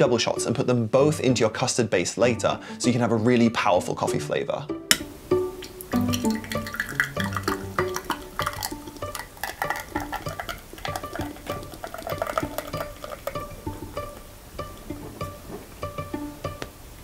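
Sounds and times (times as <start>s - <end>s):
plucked pizzicato string music: 0.0s - 17.0s.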